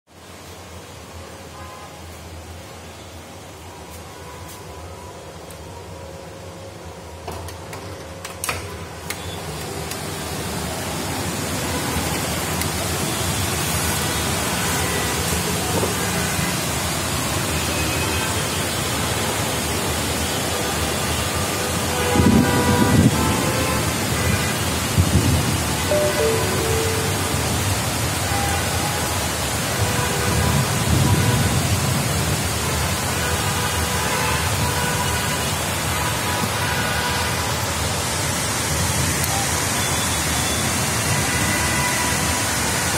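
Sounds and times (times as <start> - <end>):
heavy rain hissing: 0.1 - 7.2, 8.7 - 42.9.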